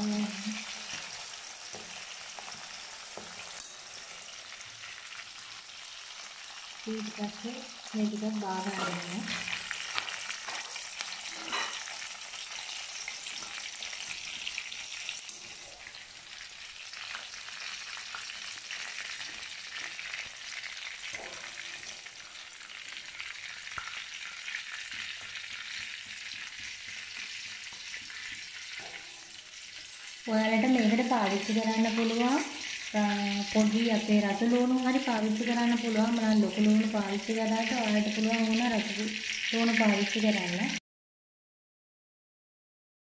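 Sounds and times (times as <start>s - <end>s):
onions sizzling in hot oil: 0.0s - 40.8s.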